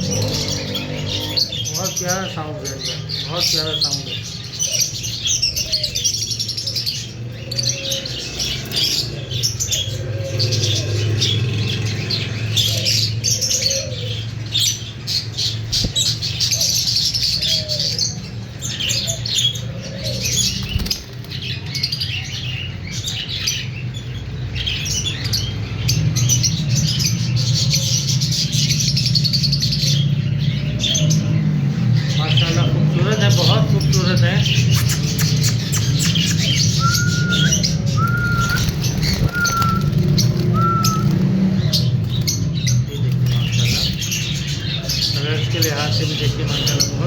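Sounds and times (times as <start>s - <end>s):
lovebirds chirping and twittering: 0.0s - 47.0s.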